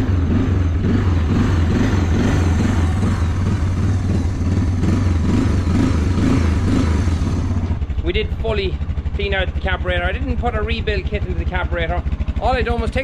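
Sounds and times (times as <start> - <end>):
quad engine idling: 0.0 - 13.0.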